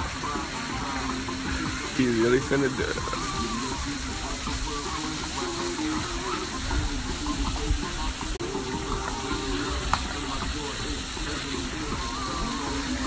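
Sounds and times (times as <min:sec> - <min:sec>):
faint voices: 0:00.0 - 0:13.0
steady outdoor hiss: 0:00.0 - 0:13.0.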